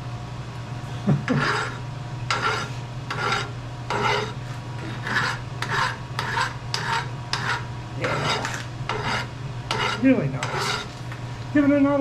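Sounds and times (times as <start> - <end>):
low machine hum: 0.0 - 12.0
rasping file strokes on steel: 1.3 - 10.9.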